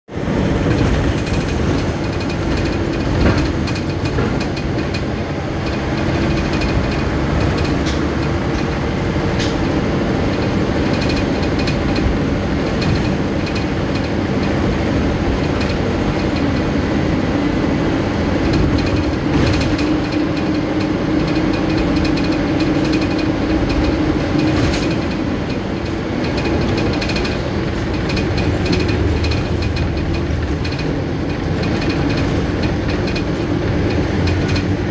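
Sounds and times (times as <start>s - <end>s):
vehicle engine droning: 0.2s - 34.9s
rattling clicks and knocks: 0.6s - 16.9s, 18.3s - 34.9s.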